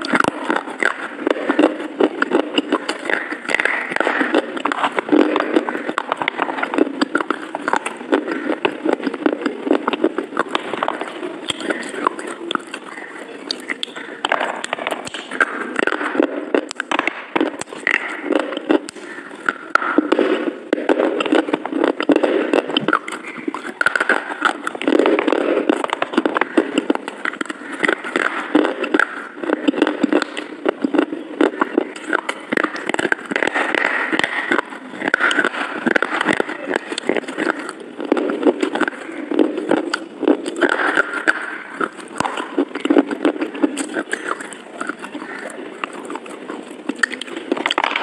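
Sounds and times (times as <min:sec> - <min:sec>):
person chewing and crunching food: 0:00.0 - 0:48.0
wet mouth clicks: 0:00.0 - 0:48.0.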